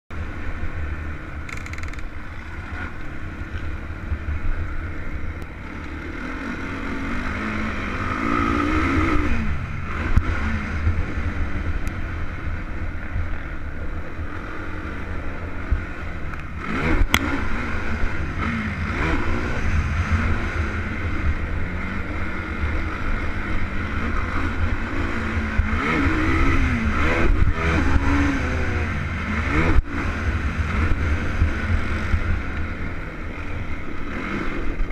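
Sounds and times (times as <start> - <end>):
wind rumbling on microphone: 0.1 - 34.9
quad bike engine revving: 0.2 - 34.9.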